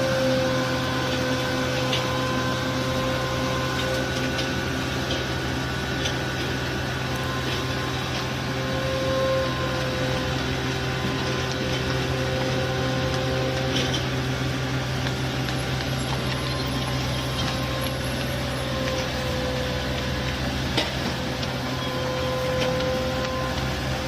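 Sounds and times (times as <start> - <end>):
heavy machinery engine drone: 0.0 - 24.0
whining tones: 0.0 - 24.0.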